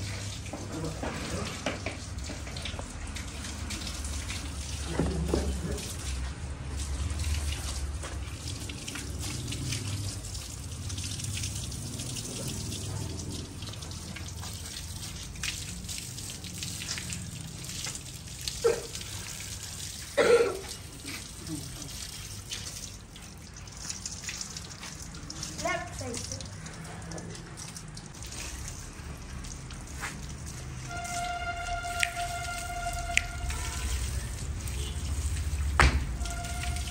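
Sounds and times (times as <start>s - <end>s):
tap water running and splashing: 0.0s - 36.9s
water drips: 0.0s - 36.9s.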